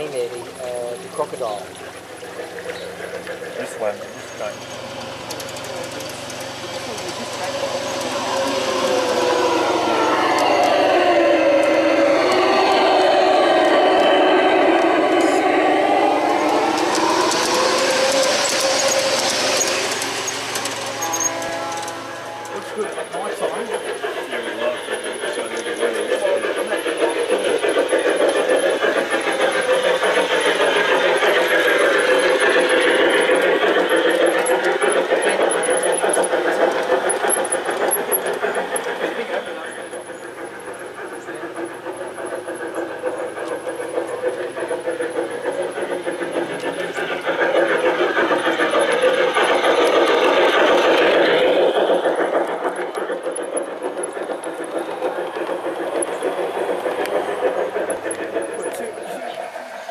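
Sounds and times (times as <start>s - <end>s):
model train motor whine: 0.0s - 59.9s
wheels running on rails: 0.0s - 59.9s.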